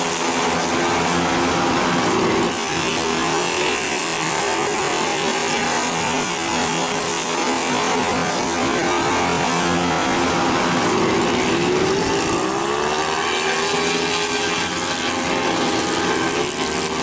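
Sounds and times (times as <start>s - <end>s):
racing scooter engines revving: 0.0s - 17.0s.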